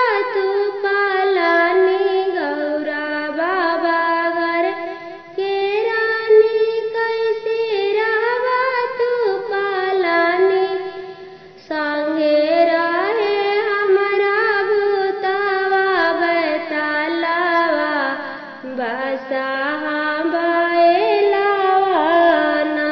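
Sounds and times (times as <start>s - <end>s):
woman singing folk song: 0.0s - 22.9s.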